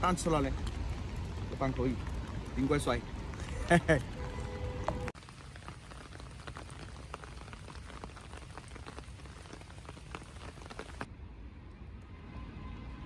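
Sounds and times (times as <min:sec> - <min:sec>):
rain drops pattering: 0:00.0 - 0:12.1.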